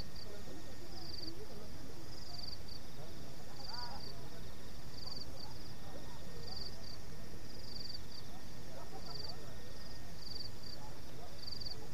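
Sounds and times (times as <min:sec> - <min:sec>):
insect chirping trill: 0:00.0 - 0:11.9.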